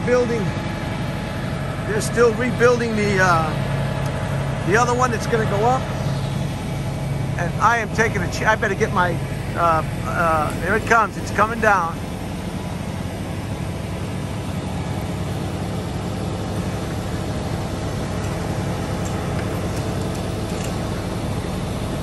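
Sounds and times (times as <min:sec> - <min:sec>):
truck engines droning: 0:00.0 - 0:22.0.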